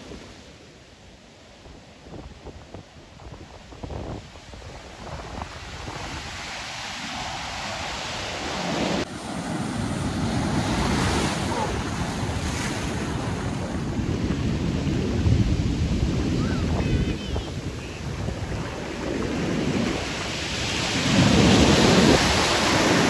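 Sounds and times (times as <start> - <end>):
water rushing up the beach: 0.0 - 23.0
wind buffeting the microphone: 1.6 - 23.0.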